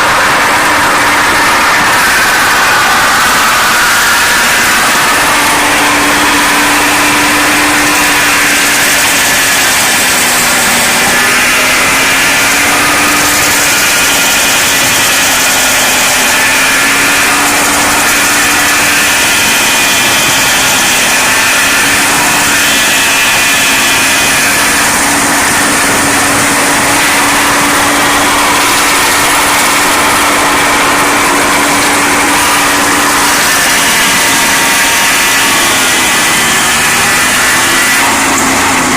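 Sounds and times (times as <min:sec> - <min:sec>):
stump grinder whirring and grinding: 0:00.0 - 0:38.9
tractor diesel engine running hard: 0:00.0 - 0:38.9.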